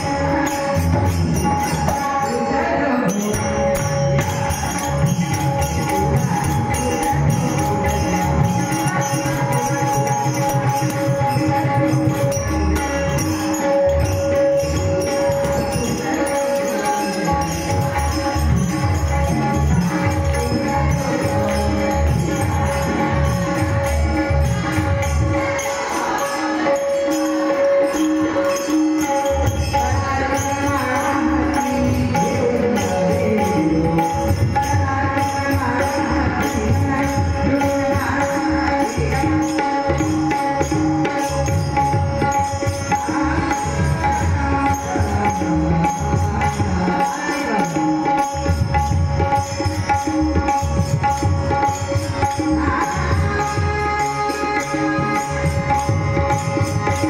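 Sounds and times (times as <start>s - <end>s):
tabla playing: 0.0s - 57.0s.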